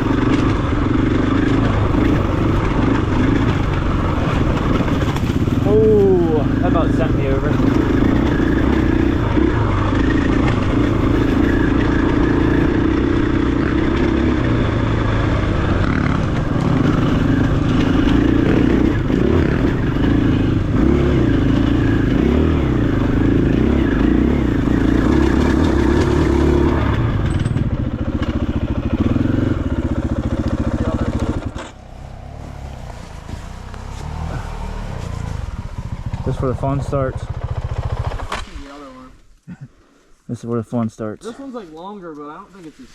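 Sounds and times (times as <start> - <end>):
motorcycle engine revving under load: 0.0 - 39.1.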